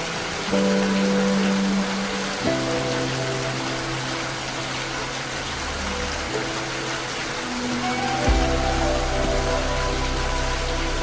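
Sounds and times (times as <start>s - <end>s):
rain hissing: 0.0s - 11.0s
soft music of held notes: 0.0s - 11.0s.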